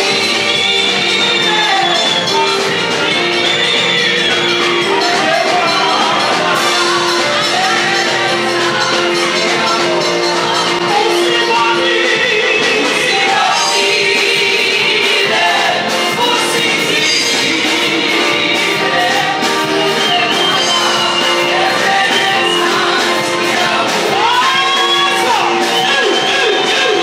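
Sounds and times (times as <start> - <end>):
music with singing: 0.0 - 27.0.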